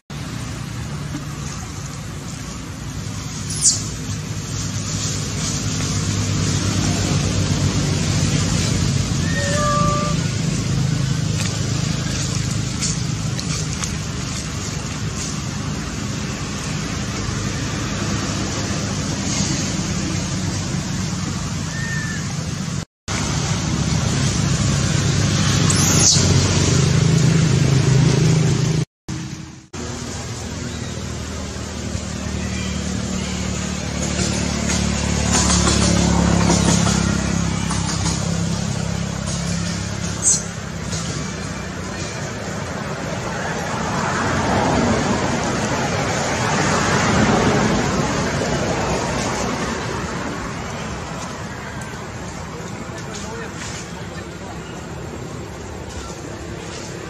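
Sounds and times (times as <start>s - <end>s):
engine and traffic noise: 0.0s - 57.0s.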